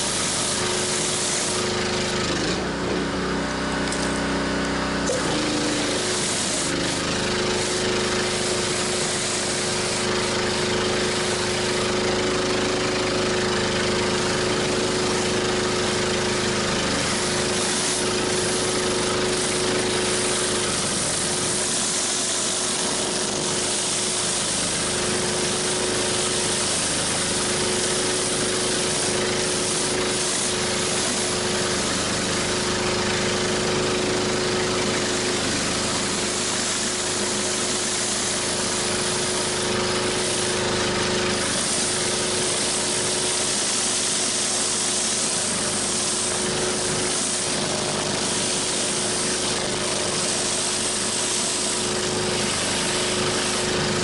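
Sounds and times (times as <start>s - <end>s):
high-pressure water hissing on concrete: 0.0s - 54.0s
pressure washer humming: 0.0s - 54.0s.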